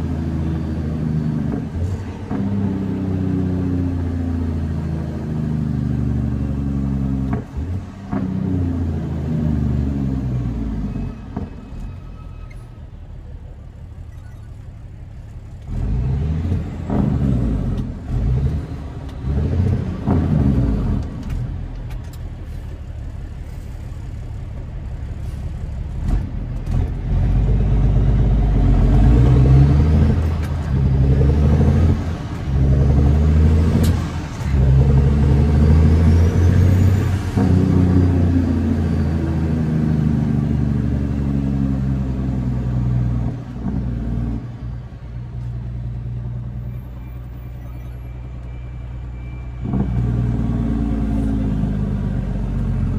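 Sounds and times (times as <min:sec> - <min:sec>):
diesel truck engine braking: 0:00.0 - 0:52.9.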